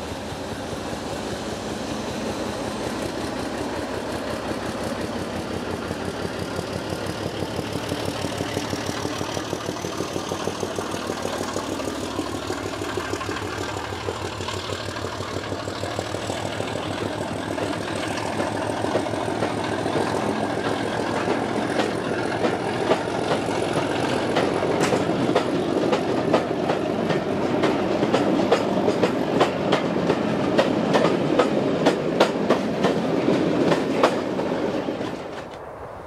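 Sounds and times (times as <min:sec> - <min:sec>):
train coaches rumbling past: 0:00.0 - 0:36.0
wheels clicking over rail joints: 0:02.8 - 0:35.7.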